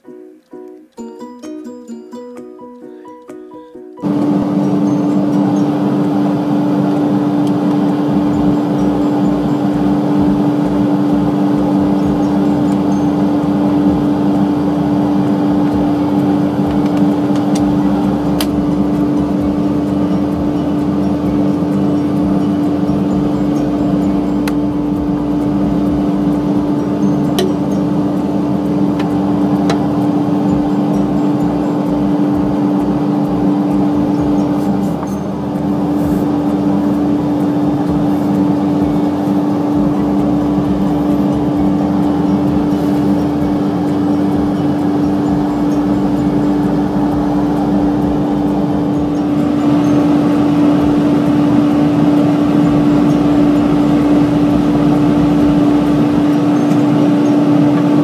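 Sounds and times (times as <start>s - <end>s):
woodworking machinery droning: 4.0s - 58.0s.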